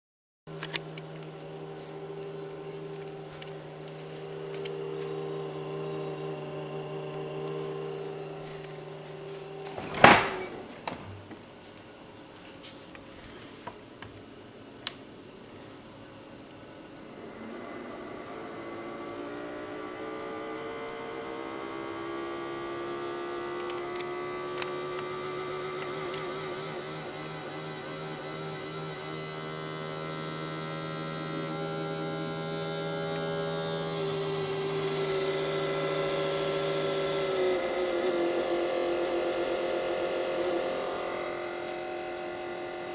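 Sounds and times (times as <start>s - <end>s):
refrigerator fan humming and droning: 0.5s - 22.0s, 22.6s - 42.9s.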